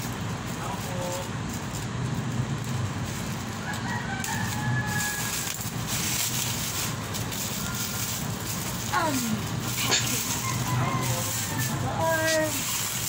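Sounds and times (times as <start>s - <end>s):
scissors cutting plastic wrapping: 0.0s - 13.0s.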